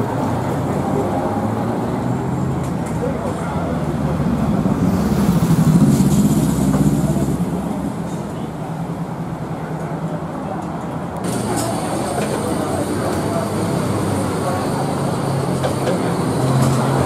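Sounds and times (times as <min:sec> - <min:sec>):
large vehicle engine rumbling: 0:00.0 - 0:17.0
traffic noise: 0:00.0 - 0:17.0.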